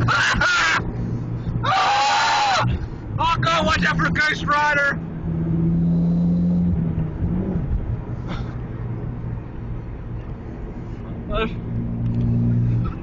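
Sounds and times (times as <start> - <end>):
car engine revving: 0.0 - 10.2, 10.9 - 13.0.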